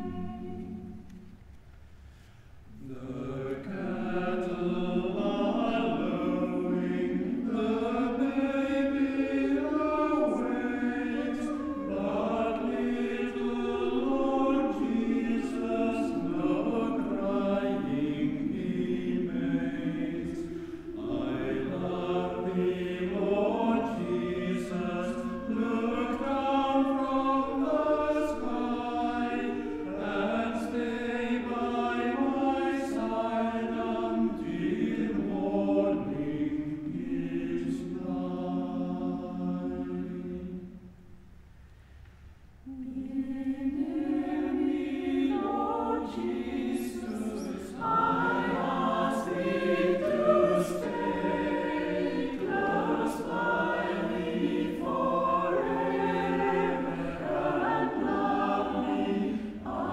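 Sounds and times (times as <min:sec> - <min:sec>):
choir singing in parts: 0:00.0 - 0:01.5, 0:02.7 - 0:41.0, 0:42.6 - 0:59.9.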